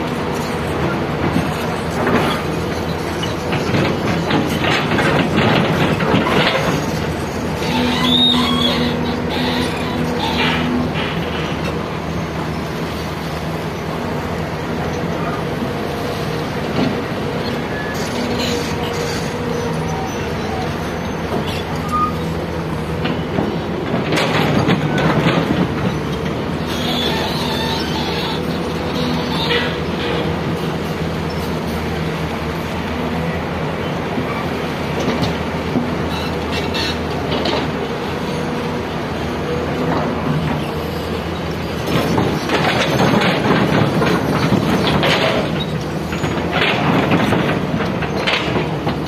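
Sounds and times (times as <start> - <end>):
excavator engine humming: 0.0 - 49.0
metallic squeaks and clanks: 0.3 - 12.2, 16.7 - 22.4, 23.0 - 31.9, 34.3 - 38.6, 39.8 - 49.0.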